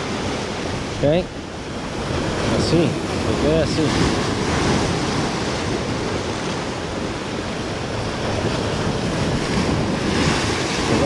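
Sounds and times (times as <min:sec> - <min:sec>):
surf washing over rocks: 0:00.0 - 0:11.0.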